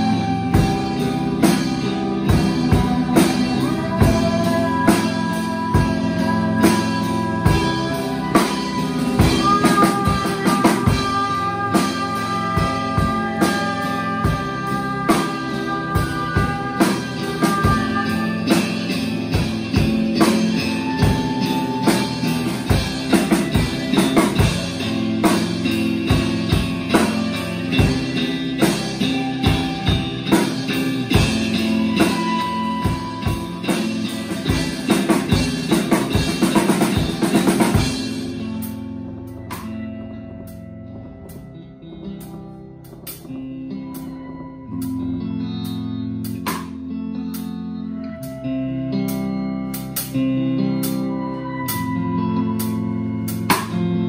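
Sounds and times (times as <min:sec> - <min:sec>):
drum kit hitting: 0:00.0 - 0:47.5, 0:52.6 - 0:54.0
sustained guitar chords: 0:00.0 - 0:54.0.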